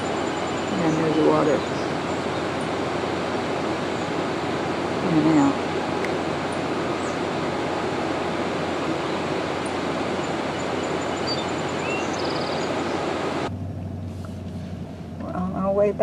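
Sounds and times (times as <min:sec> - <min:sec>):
floodwater roaring over dam: 0:00.0 - 0:14.4
low steady hum: 0:00.0 - 0:16.0.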